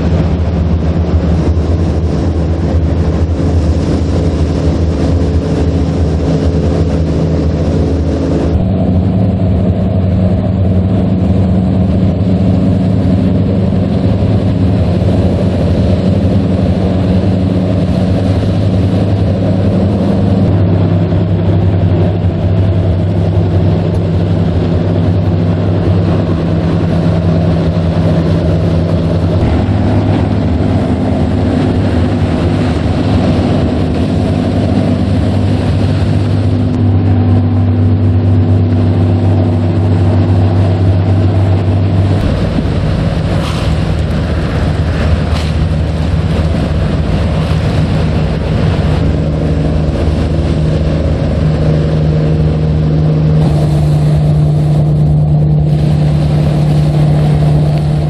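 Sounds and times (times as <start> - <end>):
boat engines running: 0.0 - 58.0.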